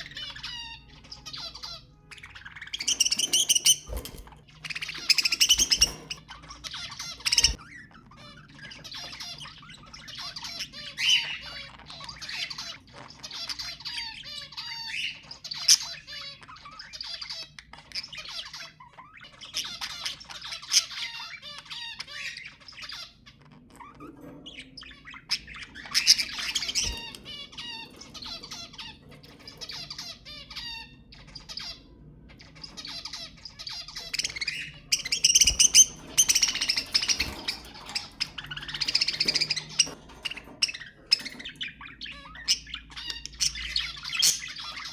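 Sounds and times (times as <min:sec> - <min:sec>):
budgerigars chattering: 0:00.0 - 0:44.9.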